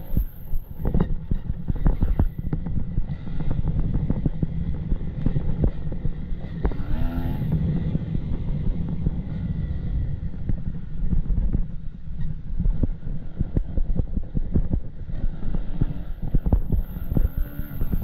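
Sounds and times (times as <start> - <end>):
motorcycle engine under throttle: 0.0 - 11.8, 12.7 - 18.0
wind buffeting microphone: 0.0 - 18.0.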